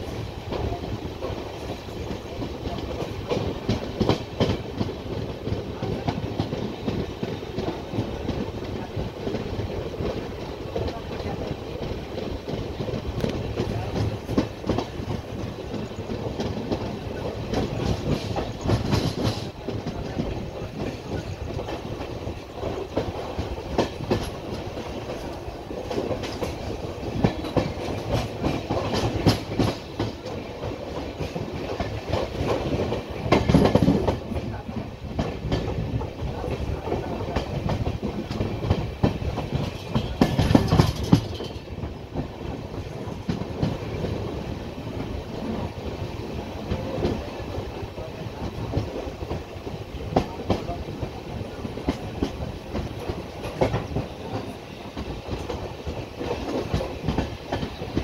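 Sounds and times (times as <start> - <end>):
train wheel and rail rumble: 0.0 - 58.0
wheels clickety-clack over track: 0.0 - 58.0.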